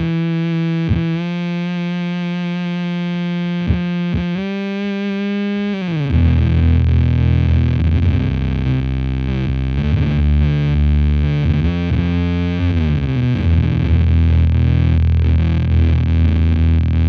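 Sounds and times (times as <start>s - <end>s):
distorted electric guitar: 0.0s - 17.0s.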